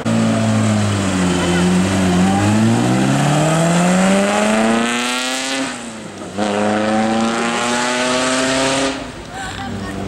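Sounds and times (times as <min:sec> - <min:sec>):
racing car engine accelerating: 0:00.0 - 0:09.2.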